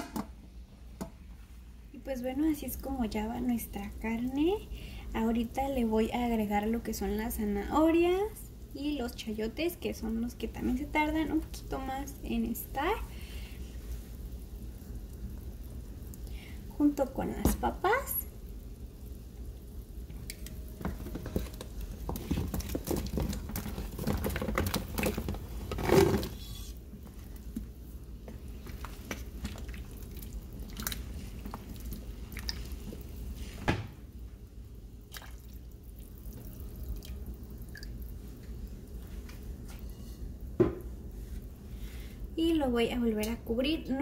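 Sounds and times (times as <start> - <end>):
broth boiling: 0.0 - 44.0.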